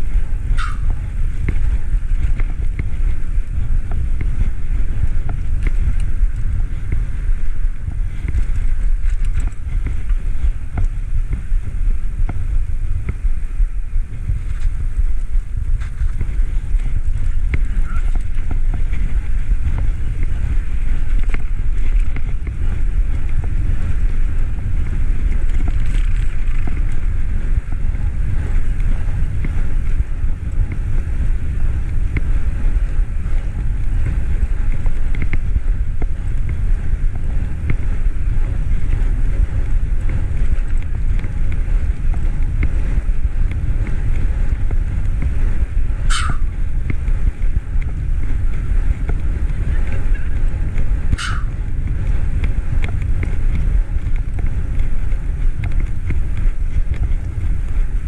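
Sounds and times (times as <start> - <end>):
tyre noise on pavement: 0.0 - 58.0
wind on microphone: 0.0 - 58.0
faint ticks: 0.1 - 13.3, 14.2 - 58.0.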